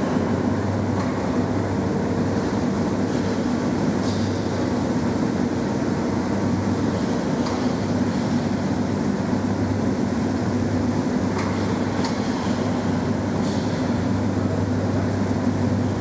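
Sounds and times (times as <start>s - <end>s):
construction machinery hum: 0.0s - 16.0s.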